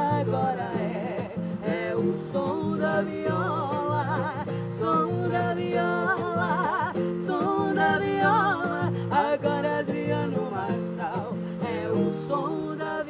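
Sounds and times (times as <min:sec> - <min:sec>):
acoustic guitar: 0:00.0 - 0:13.0
man and woman singing: 0:00.0 - 0:13.0.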